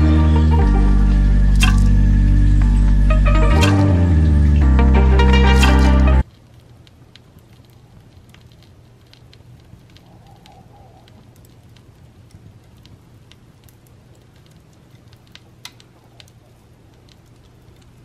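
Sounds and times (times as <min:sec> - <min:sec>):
log fire crackling: 0:00.0 - 0:18.0.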